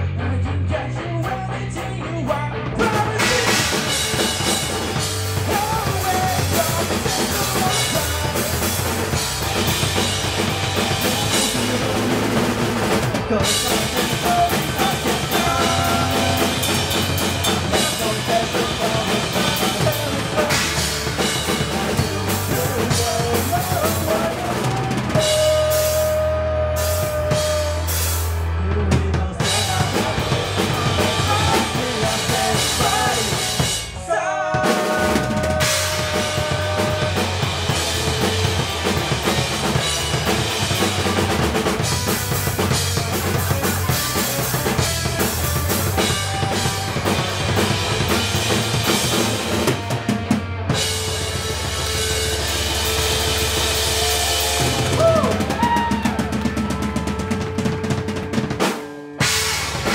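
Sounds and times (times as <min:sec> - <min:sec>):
live rock band playing: 0:00.0 - 0:59.9
drum kit with cymbals: 0:01.2 - 0:59.9.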